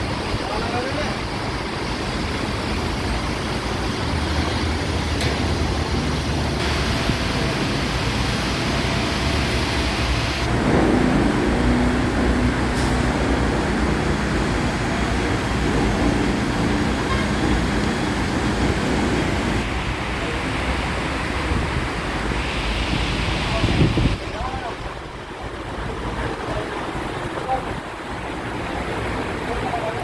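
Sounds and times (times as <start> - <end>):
wet tyres hissing: 0.0 - 24.7
truck engine and road noise: 0.0 - 30.0.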